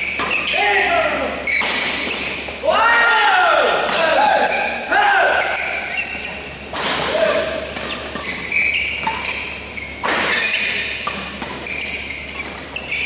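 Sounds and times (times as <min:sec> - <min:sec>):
shoes squeaking on court: 0:00.0 - 0:02.6, 0:04.4 - 0:13.0.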